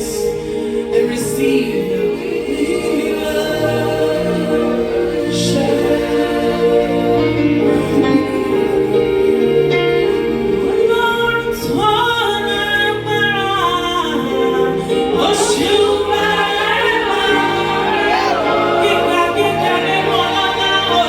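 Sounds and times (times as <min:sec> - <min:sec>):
person singing long sliding notes: 0:00.0 - 0:21.0.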